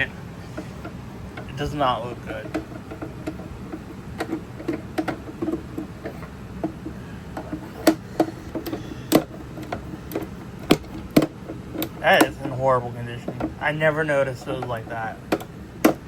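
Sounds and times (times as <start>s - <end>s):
plastic parts clicking and knocking: 0.0s - 16.0s.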